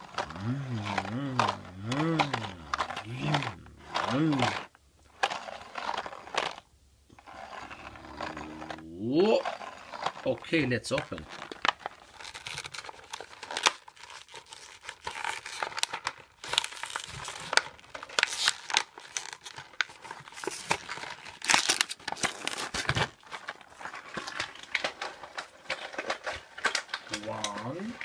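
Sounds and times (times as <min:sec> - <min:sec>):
cardboard tearing: 0:00.0 - 0:06.6, 0:07.2 - 0:28.0
plastic packaging crackling: 0:00.0 - 0:28.0.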